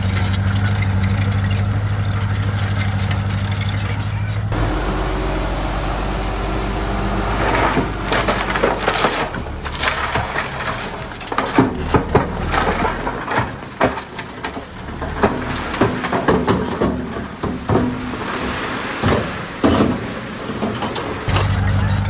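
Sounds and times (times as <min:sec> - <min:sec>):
wood and debris crunching: 0:00.0 - 0:05.7, 0:06.4 - 0:22.0
bulldozer engine running: 0:00.0 - 0:22.0.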